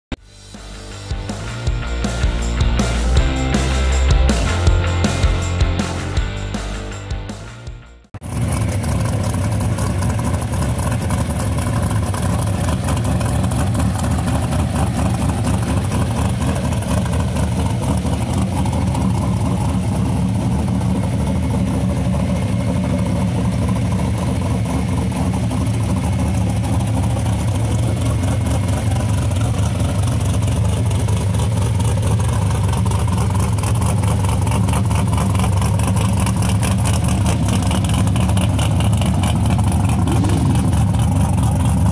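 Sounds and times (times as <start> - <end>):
truck engine idling loudly: 0.1 - 41.9.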